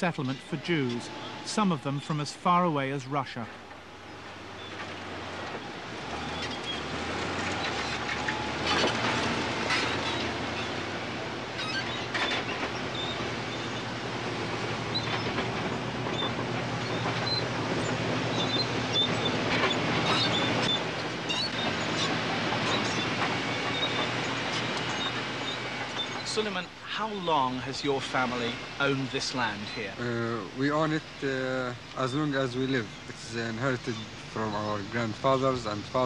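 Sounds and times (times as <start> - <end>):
diesel engine running: 0.0 - 36.0
steel tracks clanking and squealing: 0.0 - 36.0.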